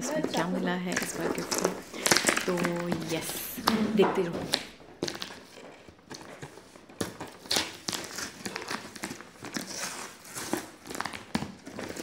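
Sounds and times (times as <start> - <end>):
packing tape and plastic crinkling: 0.0 - 12.0.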